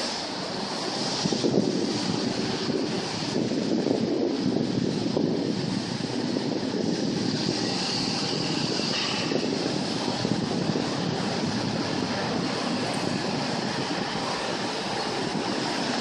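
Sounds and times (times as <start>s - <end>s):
traffic rumble: 0.0s - 16.0s
tram: 0.0s - 16.0s
wind on microphone: 0.0s - 16.0s.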